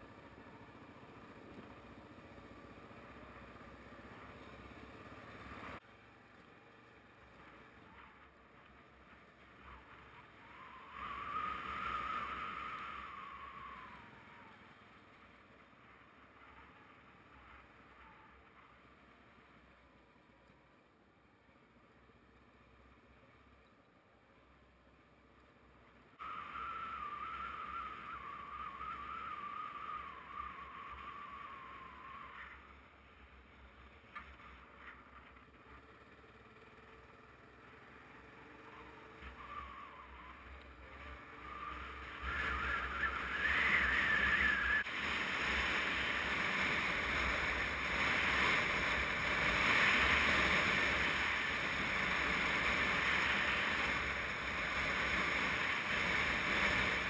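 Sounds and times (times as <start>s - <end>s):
motorcycle engine whine: 0.0s - 57.0s.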